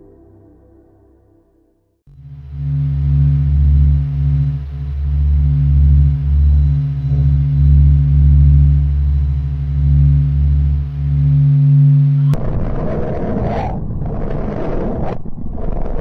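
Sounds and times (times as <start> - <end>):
deep pulsing drone: 2.1 - 16.0
rough noisy roar: 2.1 - 16.0.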